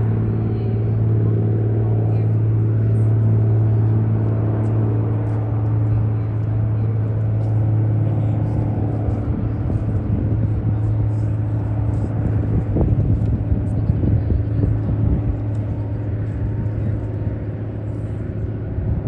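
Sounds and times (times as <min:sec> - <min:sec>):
float plane radial engine running: 0:00.0 - 0:19.0
low rough rumbling: 0:00.0 - 0:19.0.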